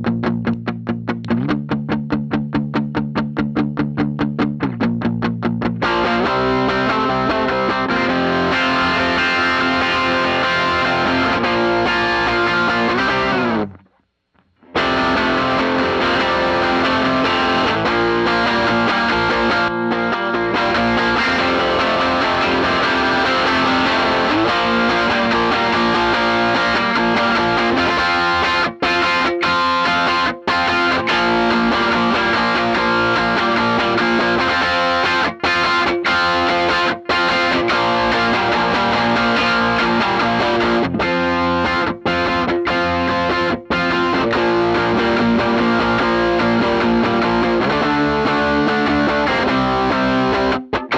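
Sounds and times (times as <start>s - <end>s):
overdriven electric guitar: 0.0s - 50.9s.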